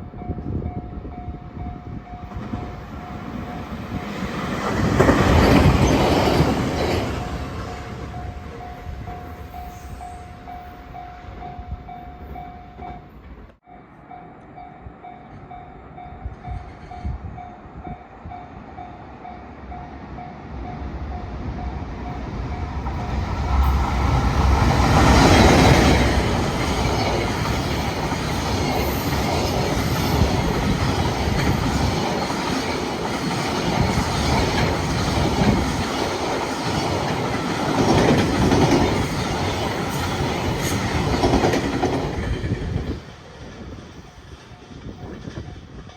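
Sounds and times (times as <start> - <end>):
electric locomotive passing: 0.0 - 45.9.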